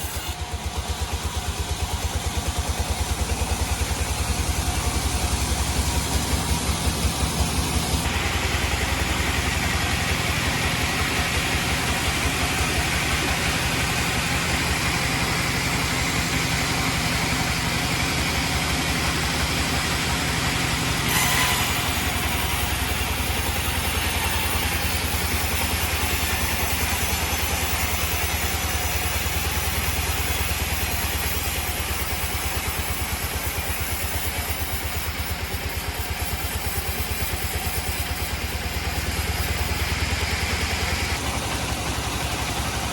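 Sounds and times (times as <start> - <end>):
sawmill engine humming: 0.0 - 42.9.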